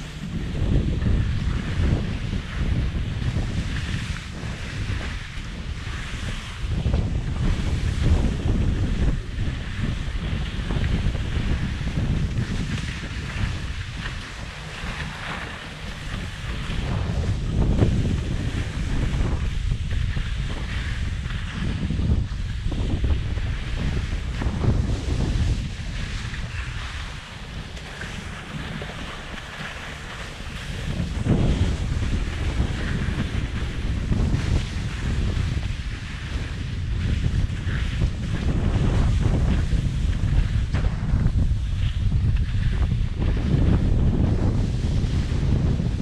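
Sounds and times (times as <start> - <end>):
skis scraping over snow: 0.0 - 46.0
wind buffeting microphone: 0.0 - 46.0.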